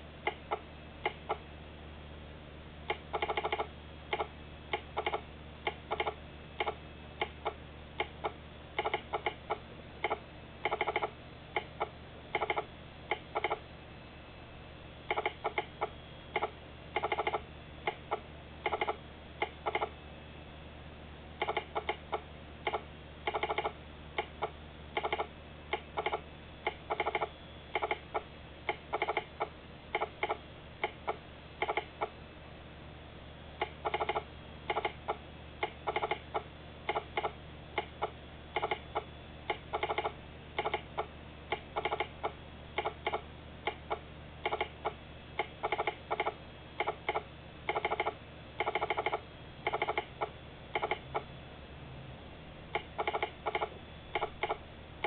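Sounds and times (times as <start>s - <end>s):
telegraph sounder clicking: 0.2s - 1.5s, 2.9s - 13.7s, 15.0s - 20.0s, 21.4s - 32.2s, 33.6s - 51.3s, 52.7s - 54.6s.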